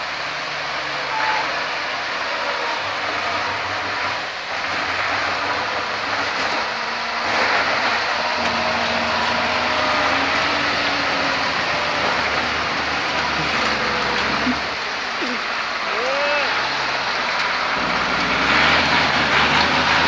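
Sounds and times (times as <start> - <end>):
truck engine running hard: 0.0 - 20.0.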